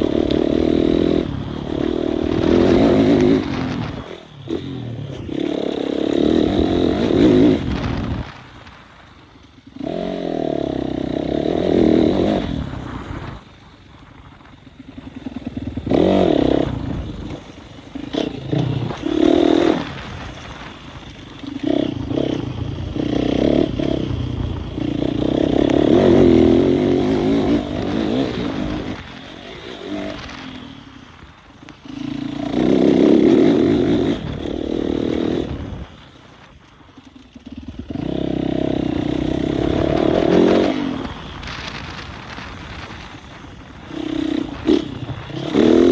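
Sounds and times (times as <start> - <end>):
motocross engines revving: 0.0 - 8.8, 9.4 - 13.8, 14.4 - 36.4, 37.2 - 45.9.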